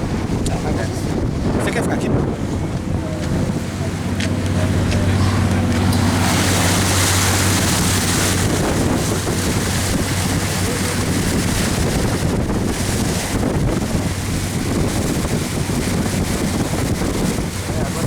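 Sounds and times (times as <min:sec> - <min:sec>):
water rushing past boat: 0:00.0 - 0:18.0
wind buffeting microphone: 0:00.0 - 0:18.0.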